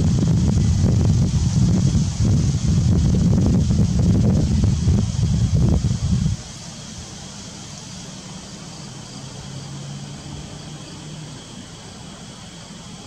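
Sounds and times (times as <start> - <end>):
distant engine drone: 0.0 - 13.0
outdoor background hiss: 0.0 - 13.0.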